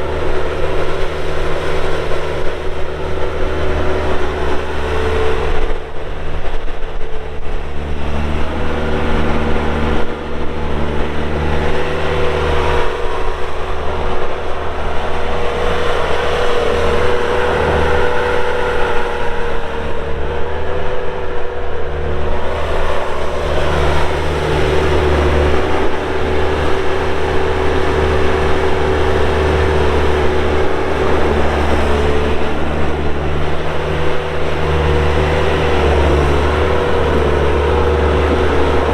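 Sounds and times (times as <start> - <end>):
diesel engine running: 0.0 - 38.9
steady wavering whine: 0.0 - 38.9.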